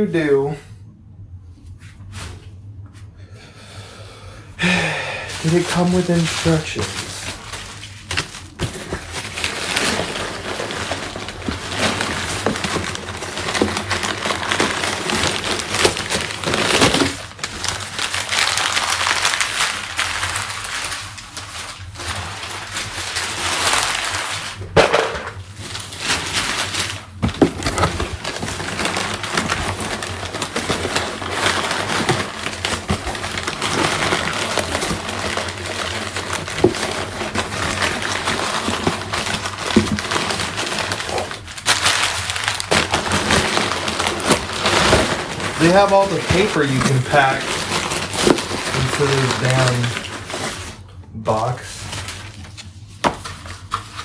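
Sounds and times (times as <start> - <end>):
packing paper rustling: 4.6 - 54.0.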